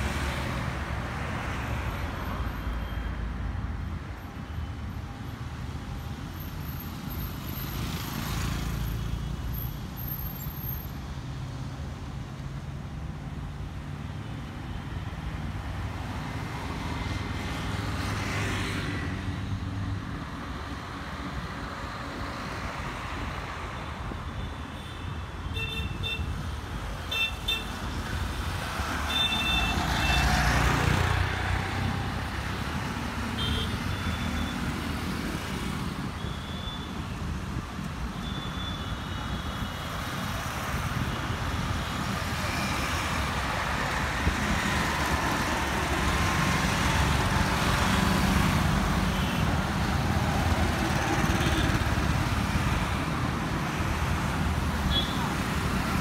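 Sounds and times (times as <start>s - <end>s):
road traffic driving past: 0.0s - 56.0s.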